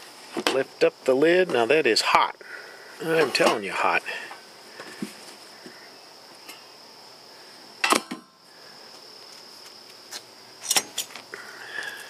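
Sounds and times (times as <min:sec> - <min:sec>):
insect chirring: 0:00.0 - 0:12.0.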